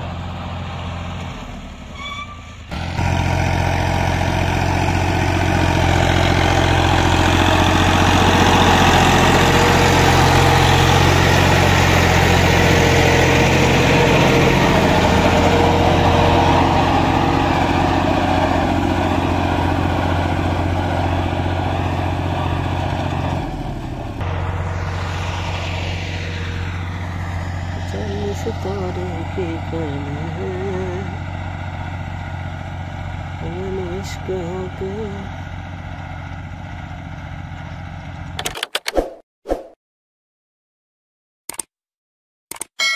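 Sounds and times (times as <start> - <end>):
tractor diesel engine running: 0.0 - 38.5.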